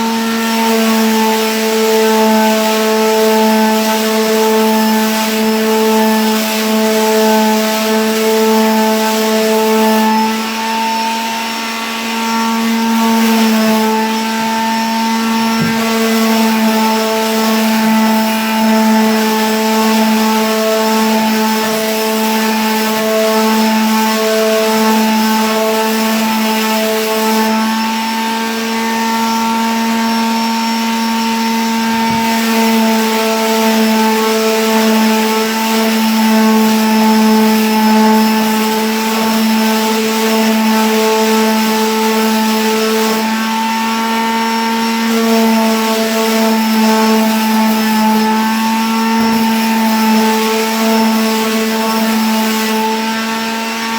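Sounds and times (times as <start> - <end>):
electric sander running: 0.0 - 53.9.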